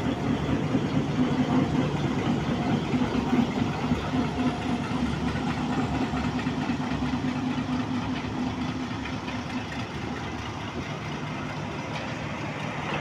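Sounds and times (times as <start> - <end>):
locomotive diesel engine humming: 0.0 - 13.0.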